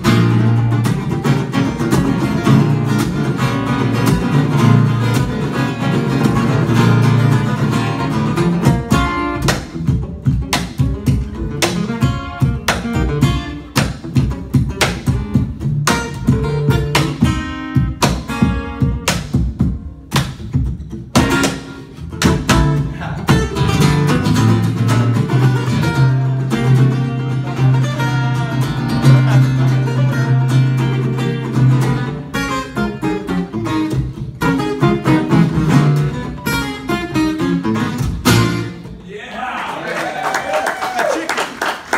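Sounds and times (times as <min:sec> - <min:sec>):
acoustic guitars strumming: 0:00.0 - 0:39.1.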